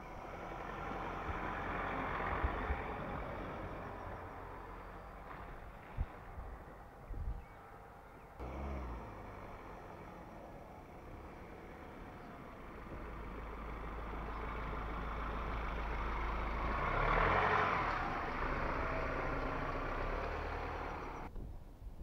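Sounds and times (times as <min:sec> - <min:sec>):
pickup truck driving past on sand: 0:00.0 - 0:06.3, 0:08.4 - 0:21.3.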